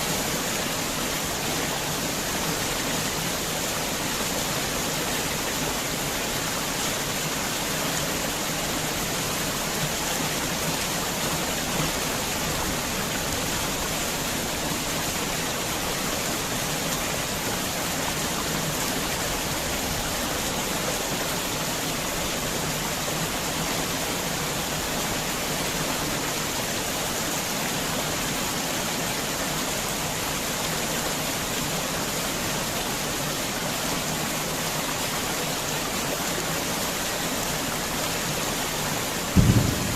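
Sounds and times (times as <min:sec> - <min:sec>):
heavy rain falling: 0:00.0 - 0:32.6, 0:33.2 - 0:39.9.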